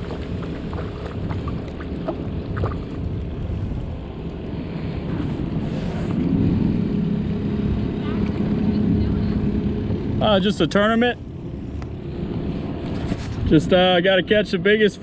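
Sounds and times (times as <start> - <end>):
low motor hum: 0.0 - 15.0
water noise: 0.0 - 15.0
wind: 0.0 - 15.0.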